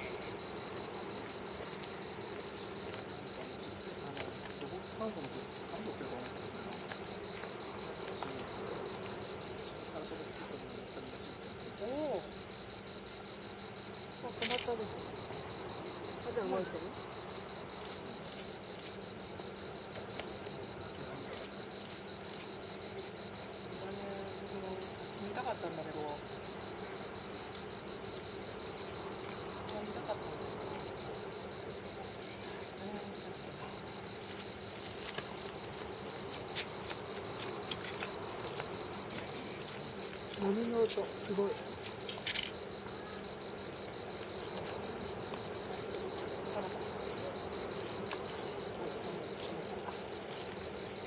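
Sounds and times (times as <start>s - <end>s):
insects chirping: 0.0s - 51.0s
low background noise: 0.0s - 51.0s.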